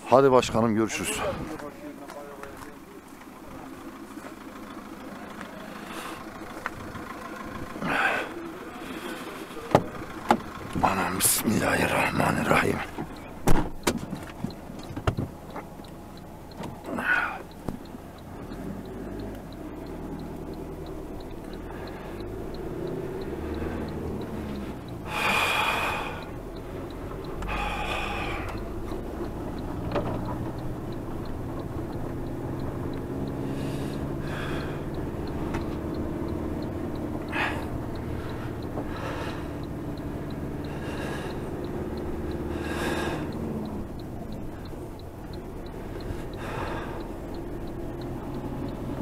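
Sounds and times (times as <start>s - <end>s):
vehicle engine from inside cab: 0.0s - 49.0s.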